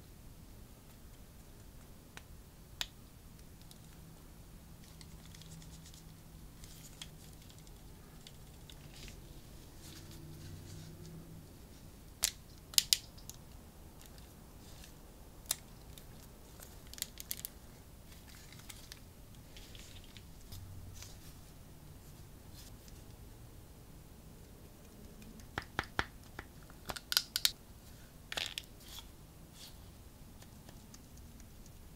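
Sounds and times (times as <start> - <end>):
faint low hum: 0.0 - 31.9.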